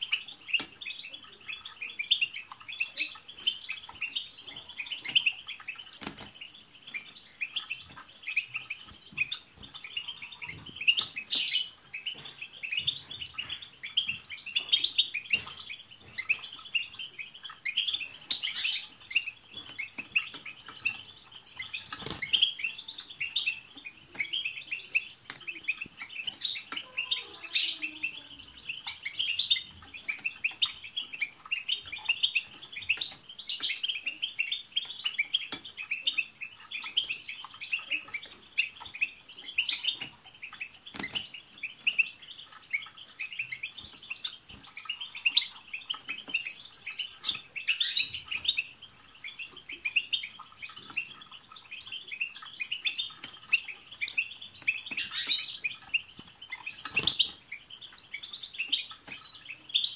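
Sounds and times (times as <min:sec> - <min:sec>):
finches twittering: 0:00.0 - 0:59.9.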